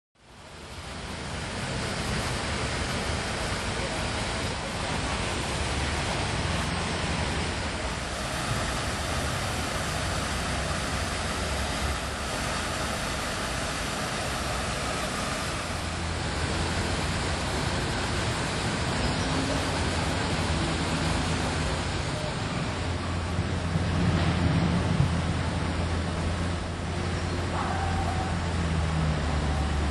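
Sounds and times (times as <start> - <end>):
water cascading into a pond: 0.2 - 29.9.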